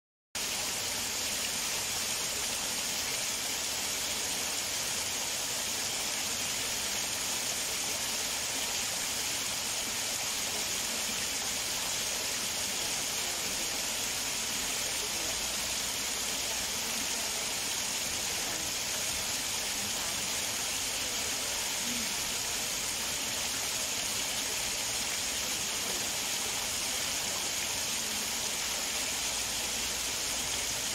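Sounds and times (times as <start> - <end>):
small waterfall splashing: 0.4 - 30.9.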